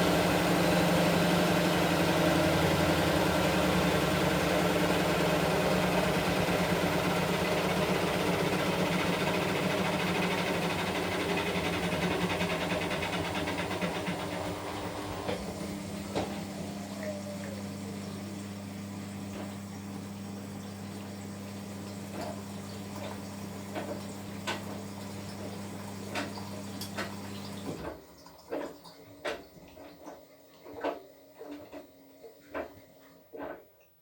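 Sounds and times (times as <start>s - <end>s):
washing machine hum: 0.0s - 33.8s.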